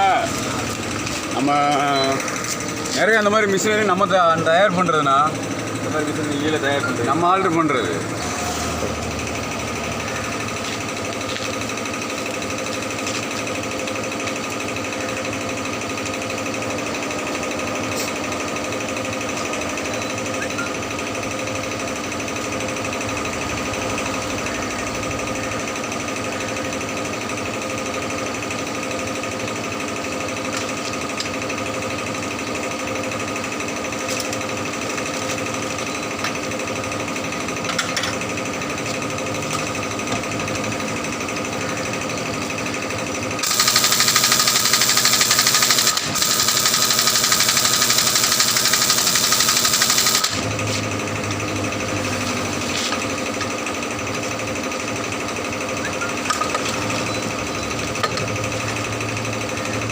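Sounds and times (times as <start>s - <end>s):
machinery rattle and hum: 0.0s - 59.9s.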